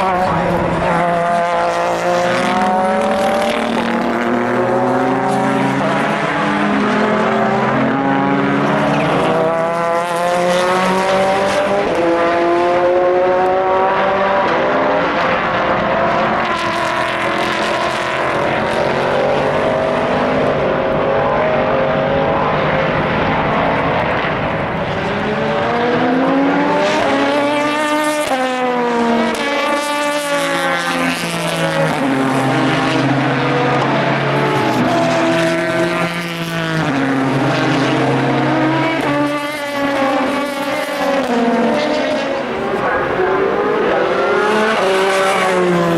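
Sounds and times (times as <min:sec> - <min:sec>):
race car engines at high revs: 0:00.0 - 0:45.9
race car passing close by: 0:00.0 - 0:45.9.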